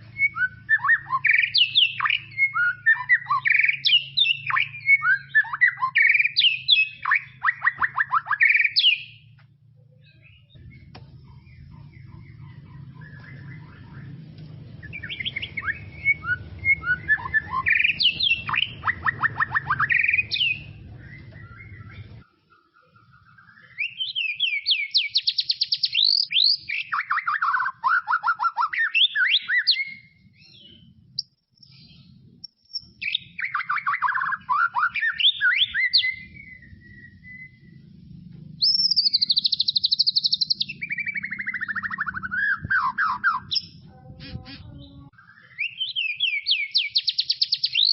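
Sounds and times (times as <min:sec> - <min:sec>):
low background hum: 0:00.0 - 0:23.9, 0:29.6 - 0:45.4
bird singing trills and whistles: 0:00.0 - 0:38.0, 0:38.6 - 0:47.9.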